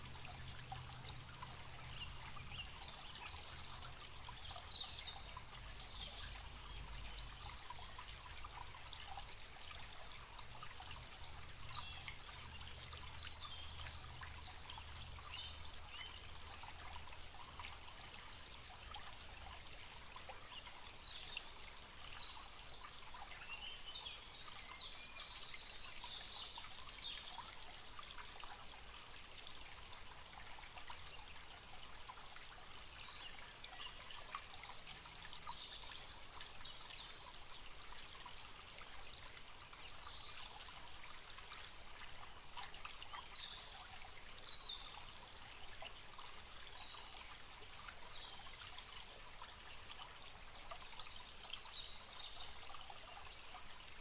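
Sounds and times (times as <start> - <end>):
stream trickling and babbling: 0.0 - 54.0.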